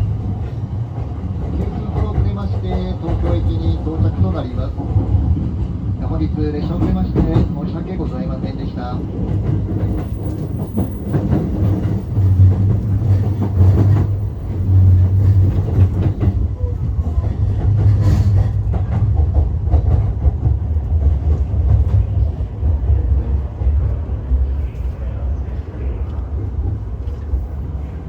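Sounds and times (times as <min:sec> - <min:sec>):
train rolling along track: 0:00.0 - 0:28.0.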